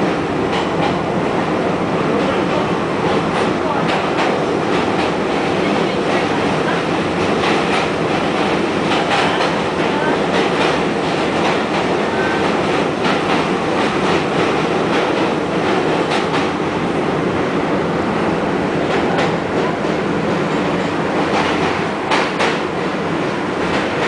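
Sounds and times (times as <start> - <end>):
subway train rumble and rattle: 0.0 - 24.0.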